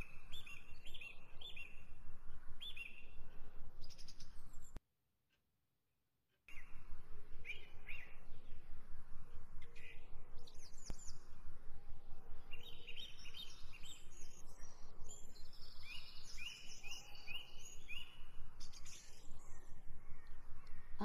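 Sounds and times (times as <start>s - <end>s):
small birds chirping: 0.0s - 4.8s, 6.5s - 21.0s.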